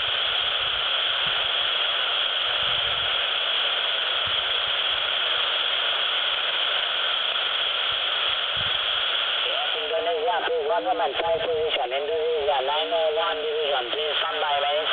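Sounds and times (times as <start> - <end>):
radio static hiss: 0.0 - 14.9.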